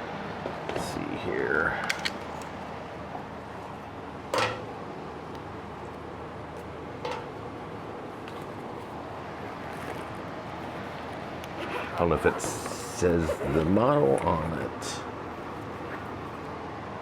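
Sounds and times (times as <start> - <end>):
electric fan whooshing: 0.0 - 17.0.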